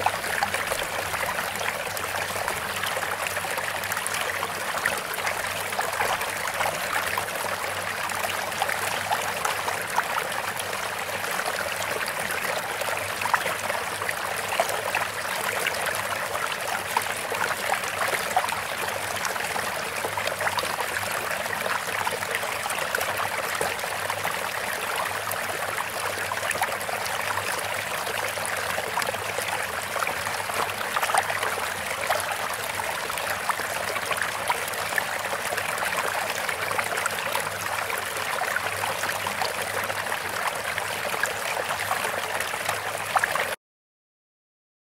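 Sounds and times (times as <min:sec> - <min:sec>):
water babbling in a stream: 0:00.0 - 0:43.6.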